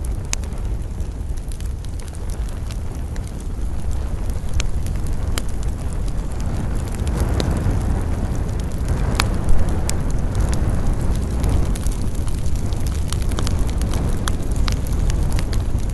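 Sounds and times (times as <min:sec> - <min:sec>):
campfire crackling: 0:00.0 - 0:15.9
low rumble of wind: 0:00.0 - 0:15.9
sharp pops of fire: 0:00.0 - 0:15.9.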